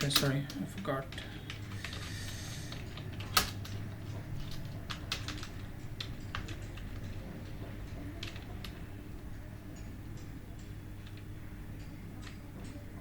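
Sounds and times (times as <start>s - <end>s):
computer keyboard typing: 0.0s - 12.9s
low steady hum: 0.0s - 13.0s.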